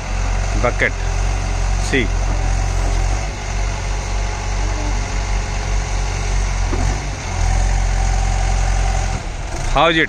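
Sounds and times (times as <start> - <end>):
diesel engine running under load: 0.0 - 10.0.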